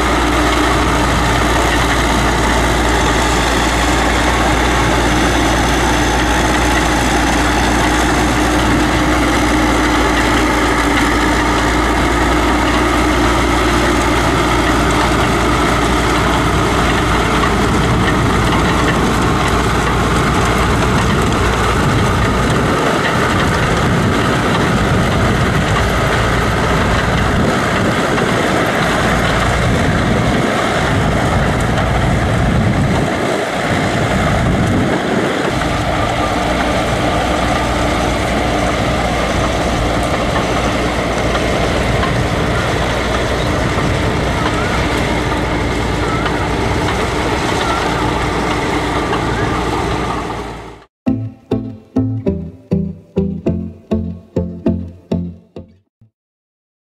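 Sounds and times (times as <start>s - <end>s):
tractor engine rumbling: 0.0s - 55.8s.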